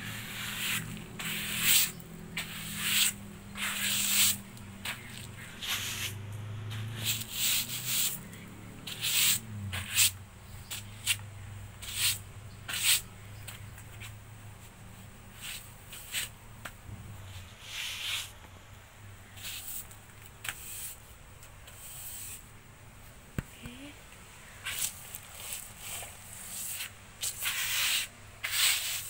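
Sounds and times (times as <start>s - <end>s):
broom sweeping: 0.0s - 16.4s, 17.1s - 18.4s, 19.3s - 22.5s, 24.6s - 29.0s.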